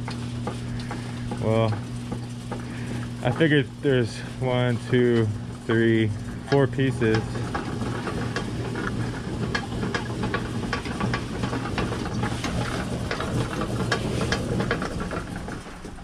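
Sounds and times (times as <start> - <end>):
machine motor hum: 0.0 - 16.0.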